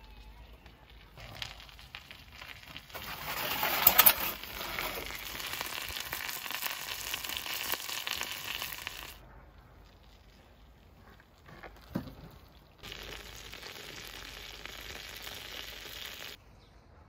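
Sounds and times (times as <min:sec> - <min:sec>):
fat sizzling and crackling: 0:00.0 - 0:09.2, 0:09.9 - 0:16.4.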